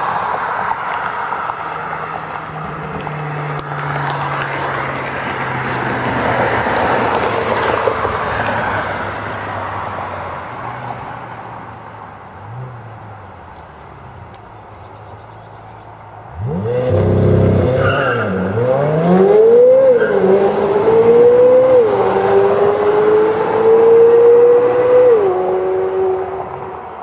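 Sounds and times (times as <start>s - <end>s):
car driving by: 0.0s - 27.0s.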